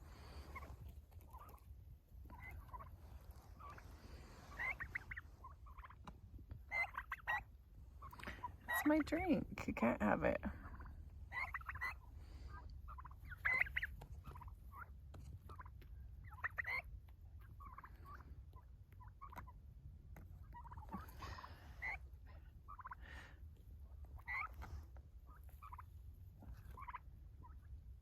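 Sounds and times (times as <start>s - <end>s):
turkeys calling: 0.0s - 9.2s, 10.5s - 28.0s.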